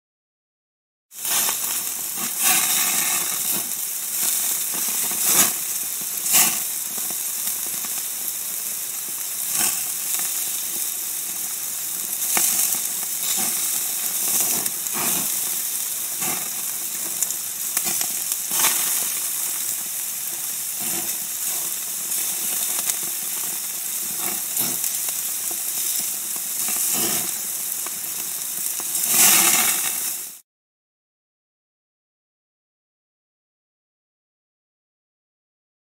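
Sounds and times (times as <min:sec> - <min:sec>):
meat sizzling on a grill: 0:01.1 - 0:30.4.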